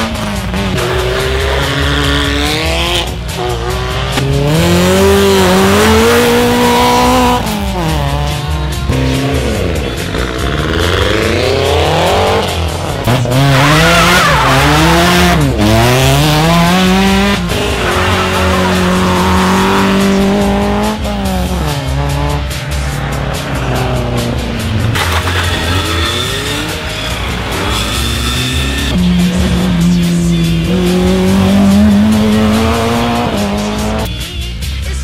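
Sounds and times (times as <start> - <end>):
rally car engines at hard throttle: 0.0 - 35.0.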